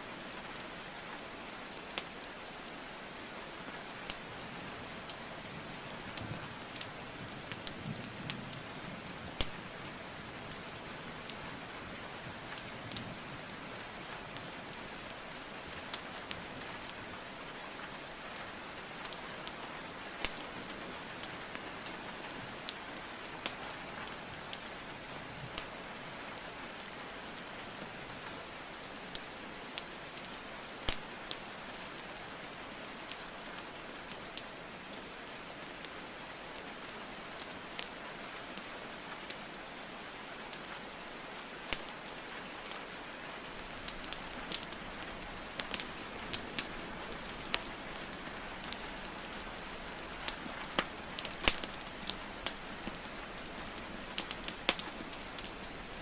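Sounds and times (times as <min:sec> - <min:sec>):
rain hiss: 0:00.0 - 0:56.0
wood fire crackling: 0:00.2 - 0:56.0.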